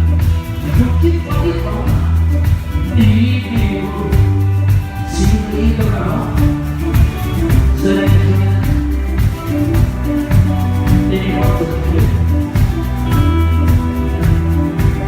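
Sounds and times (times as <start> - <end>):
bass notes: 0.0 - 15.0
drum beat: 0.0 - 15.0
pitched chords: 0.0 - 15.0.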